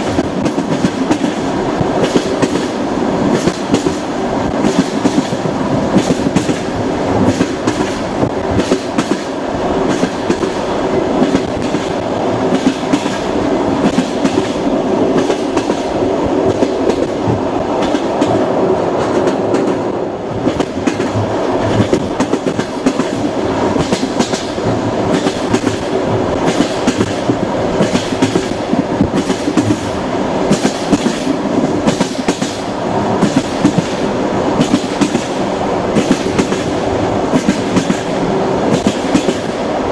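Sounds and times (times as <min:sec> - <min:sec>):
train carriage rumble: 0:00.0 - 0:39.9
train wheels clacking: 0:00.0 - 0:39.9.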